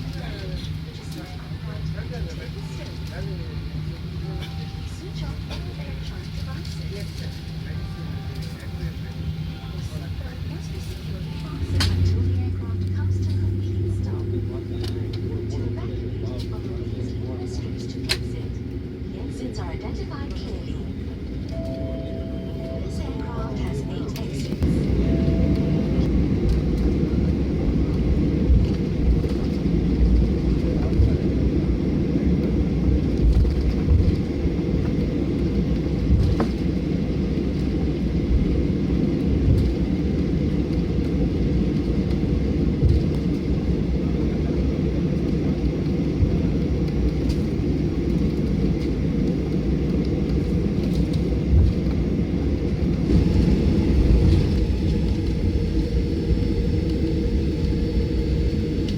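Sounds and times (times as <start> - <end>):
airplane cabin engine rumble: 0.0 - 58.9.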